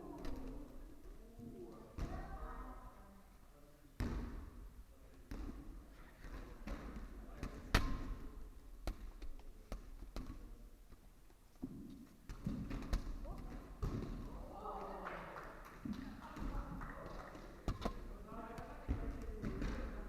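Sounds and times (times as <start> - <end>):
dodgeballs smacking and bouncing: 0.0 - 1.2, 1.8 - 2.6, 4.0 - 20.0.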